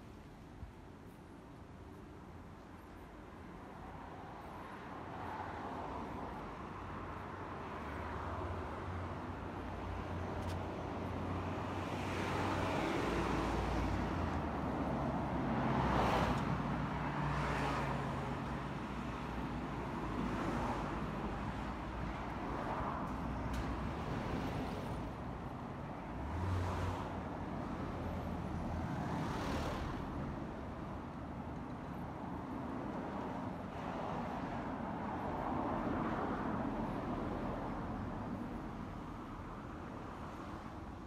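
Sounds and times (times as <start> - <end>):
vehicles passing: 2.9 - 41.0.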